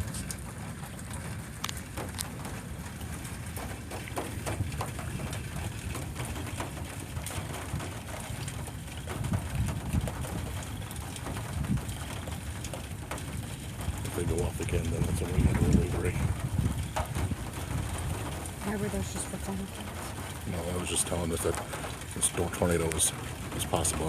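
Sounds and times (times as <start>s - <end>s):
light rain ticking: 0.0s - 24.0s
wind buffeting microphone: 0.0s - 24.0s.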